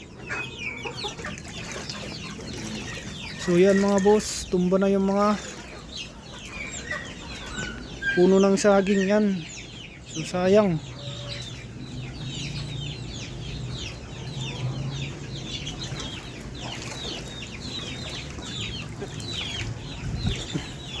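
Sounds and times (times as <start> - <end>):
chickens peeping and clucking: 0.0 - 21.0.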